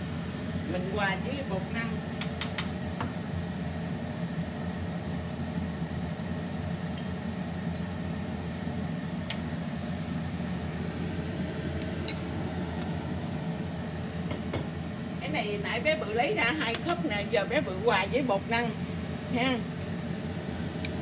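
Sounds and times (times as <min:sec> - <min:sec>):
low kitchen hum: 0:00.0 - 0:21.0.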